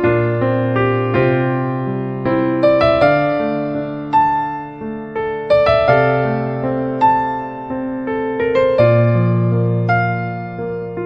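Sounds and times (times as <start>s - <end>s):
slow electric piano music: 0.0s - 11.0s.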